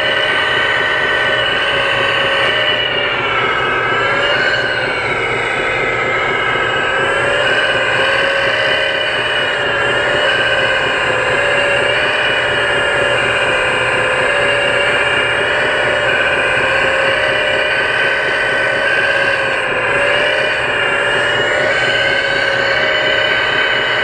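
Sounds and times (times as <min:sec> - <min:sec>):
hydraulic pump whine: 0:00.0 - 0:24.0.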